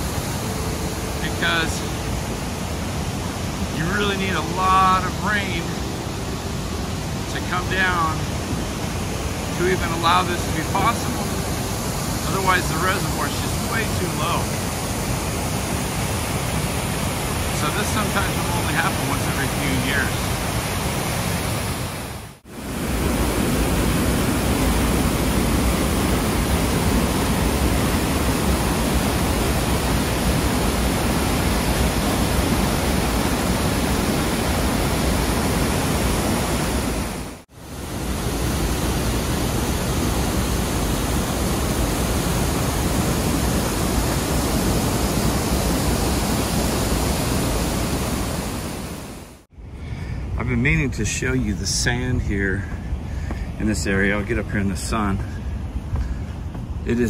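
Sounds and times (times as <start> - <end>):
waterfall rushing: 0.0 - 49.5.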